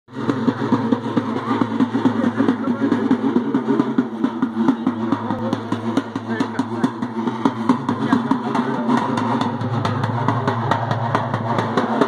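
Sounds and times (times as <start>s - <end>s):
drums beaten in fast rhythm: 0.1s - 12.0s.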